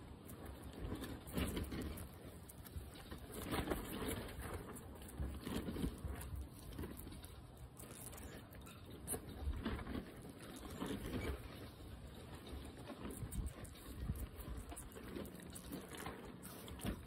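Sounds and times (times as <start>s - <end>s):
guinea pig chewing: 0.0s - 17.0s.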